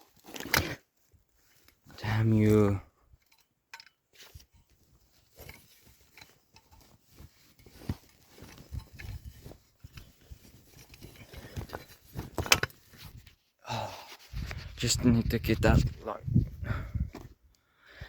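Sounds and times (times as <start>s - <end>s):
rustling and scraping of gear: 0.0s - 17.5s.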